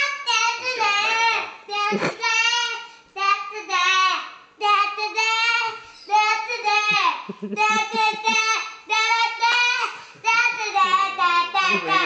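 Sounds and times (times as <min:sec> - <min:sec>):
child singing loudly: 0:00.0 - 0:12.0.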